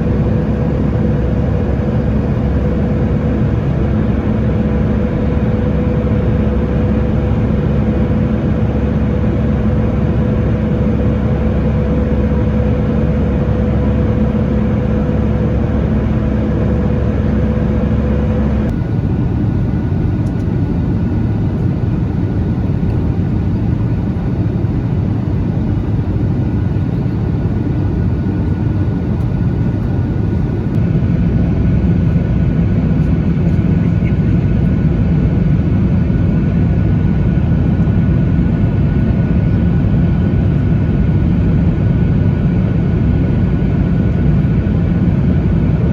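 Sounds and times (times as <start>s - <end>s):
jet cabin drone: 0.0s - 45.9s.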